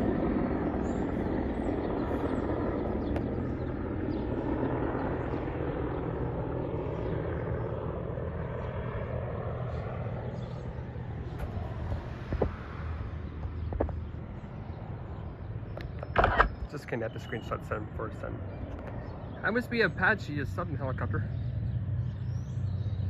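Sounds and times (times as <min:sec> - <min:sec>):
helicopter flying past: 0:00.0 - 0:23.0.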